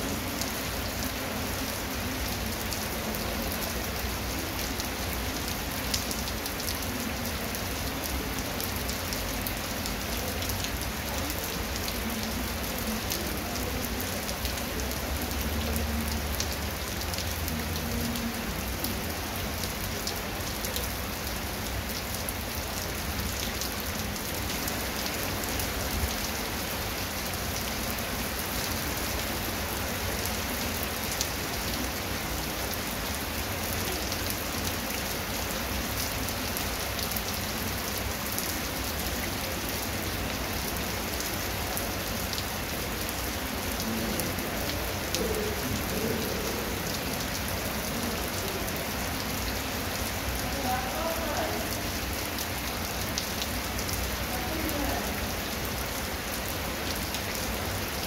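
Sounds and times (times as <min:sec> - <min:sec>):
heavy rain on concrete and grass: 0:00.0 - 0:58.0.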